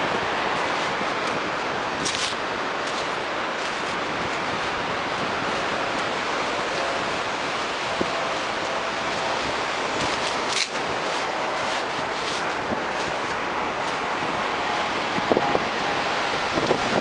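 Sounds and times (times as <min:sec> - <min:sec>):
small waves washing on rocks: 0:00.0 - 0:15.1
wind on microphone: 0:00.0 - 0:17.0.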